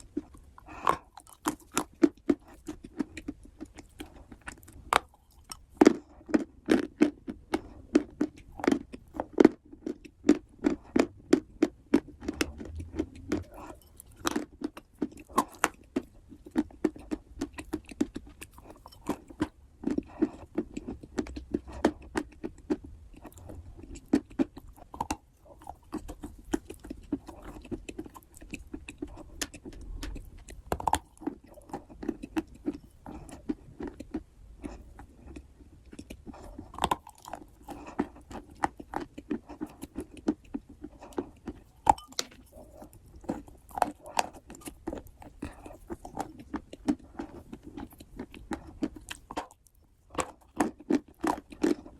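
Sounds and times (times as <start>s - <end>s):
chewing wet clay: 0.0s - 51.9s.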